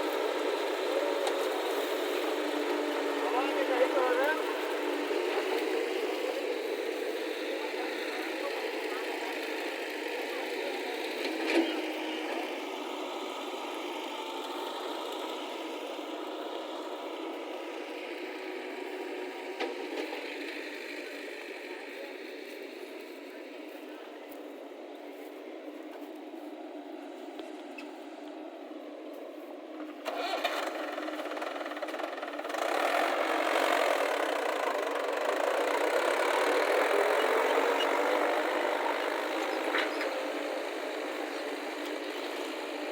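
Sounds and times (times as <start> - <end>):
digging machine diesel engine: 0.0 - 42.9.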